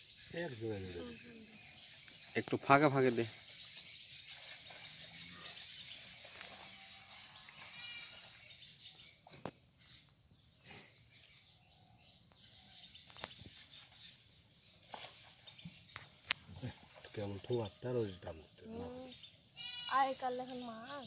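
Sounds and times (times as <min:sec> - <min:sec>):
rural background noise: 0:00.0 - 0:21.0
small birds chirping: 0:00.0 - 0:21.0.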